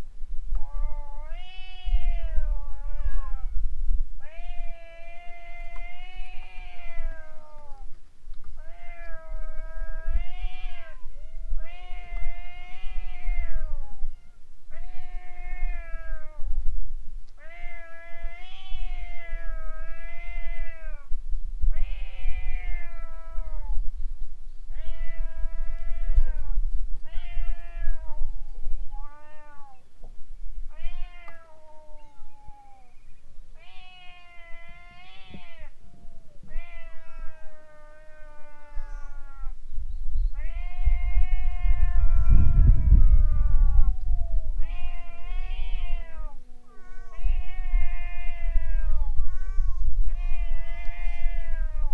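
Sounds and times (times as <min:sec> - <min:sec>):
cats yowling: 0:00.5 - 0:03.6, 0:04.2 - 0:08.0, 0:08.6 - 0:16.5, 0:17.4 - 0:21.1, 0:21.7 - 0:23.8, 0:24.7 - 0:29.8, 0:30.7 - 0:33.0, 0:33.6 - 0:39.6, 0:40.3 - 0:51.9.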